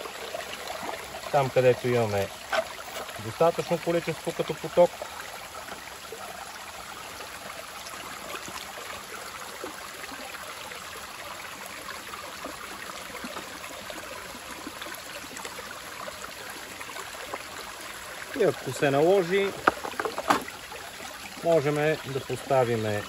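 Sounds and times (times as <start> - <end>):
creek water running over rocks: 0.0 - 23.0.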